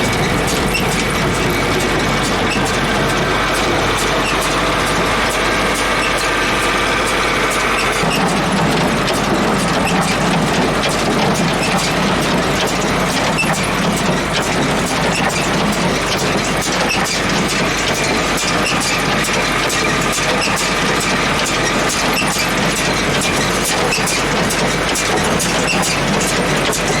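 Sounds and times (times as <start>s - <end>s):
hay baler mechanism clattering: 0.0s - 27.0s.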